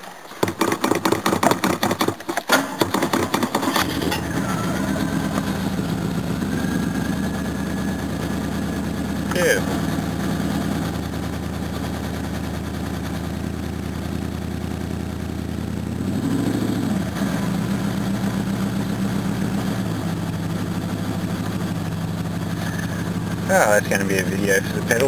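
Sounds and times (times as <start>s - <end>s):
car engine fast idle: 2.5s - 16.0s, 17.2s - 25.0s.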